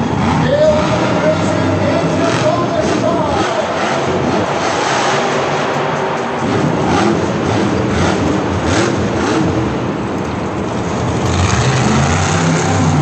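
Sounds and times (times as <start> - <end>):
monster truck engine running: 0.0 - 13.0.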